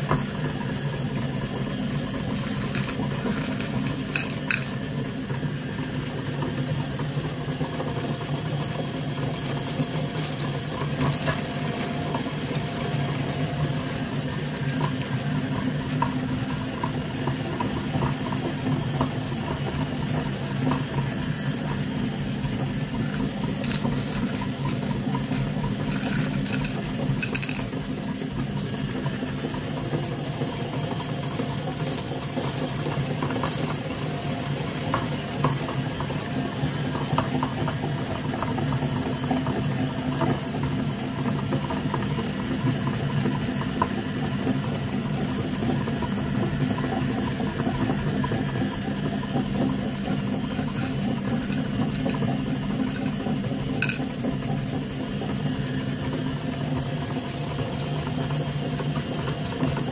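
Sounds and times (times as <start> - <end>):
meat grinder humming: 0.0 - 59.9.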